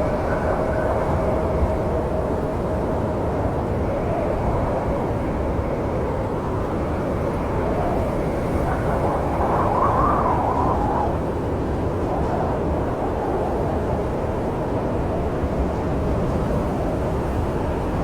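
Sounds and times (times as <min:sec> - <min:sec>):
howling snowstorm wind: 0:00.0 - 0:18.0.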